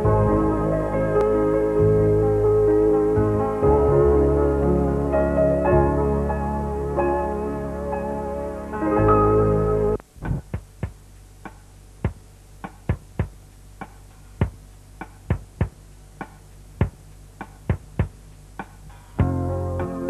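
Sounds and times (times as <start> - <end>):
music: 0.0 - 20.0.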